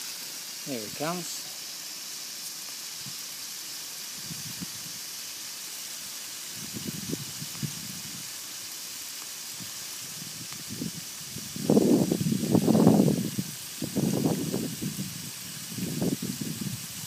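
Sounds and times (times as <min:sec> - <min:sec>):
hose spraying mist: 0:00.0 - 0:17.0.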